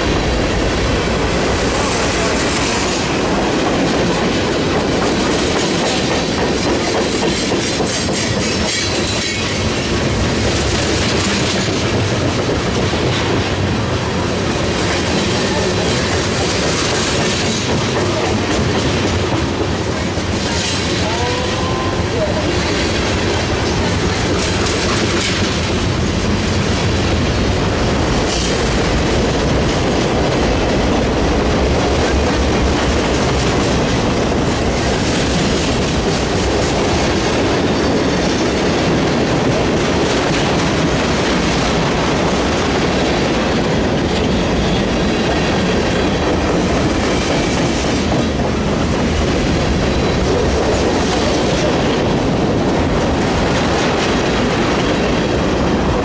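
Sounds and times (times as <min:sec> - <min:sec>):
freight train rolling past: 0:00.0 - 0:56.0
wheels clacking over rail joints: 0:02.5 - 0:56.0.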